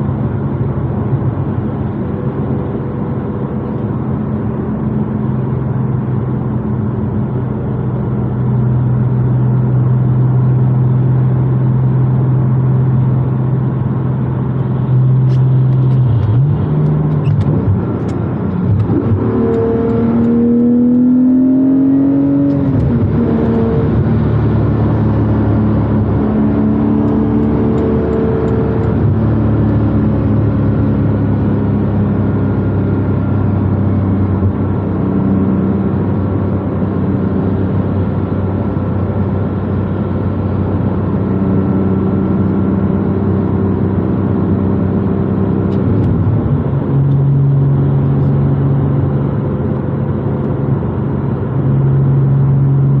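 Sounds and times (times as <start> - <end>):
car engine and exhaust cruising: 0.0 - 53.0.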